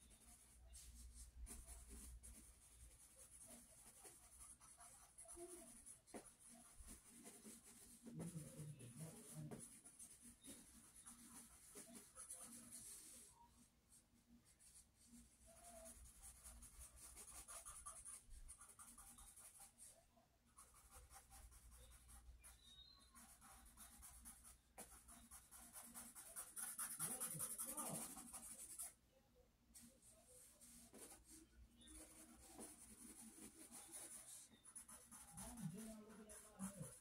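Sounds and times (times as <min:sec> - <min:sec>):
pencil scratching on paper: 0:00.0 - 0:13.4, 0:14.5 - 0:19.9, 0:20.5 - 0:29.0, 0:29.8 - 0:37.0.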